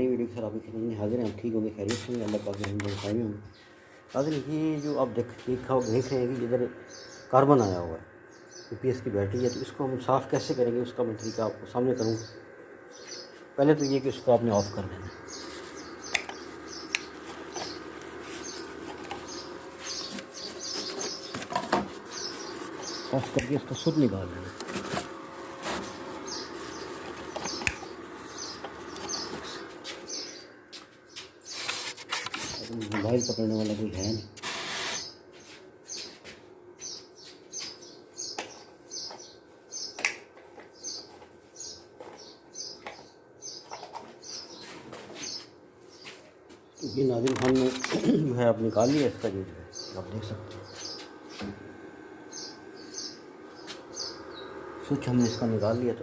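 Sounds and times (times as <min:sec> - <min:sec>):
small birds chirping: 0:00.0 - 0:36.2, 0:36.8 - 0:56.0
steady low hum: 0:00.0 - 0:56.0.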